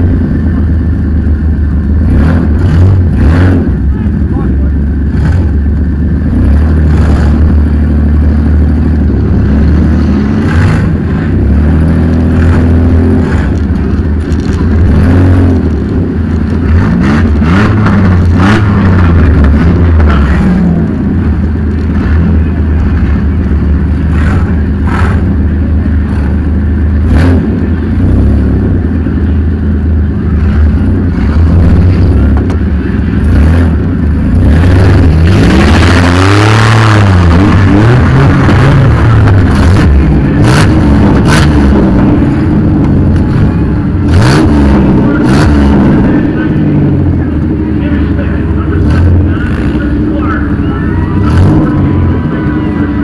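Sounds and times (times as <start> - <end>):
van engine revving: 0.0 - 53.0.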